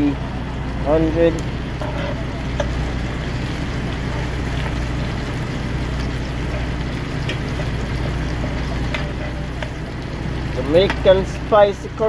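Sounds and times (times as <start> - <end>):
engine idling hum: 0.0 - 12.0
meat sizzling in oil: 0.0 - 12.0.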